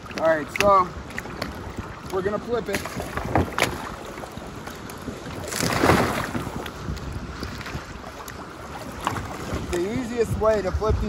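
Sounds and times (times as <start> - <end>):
water sloshing and splashing: 0.0 - 11.0
wind on microphone: 0.0 - 11.0.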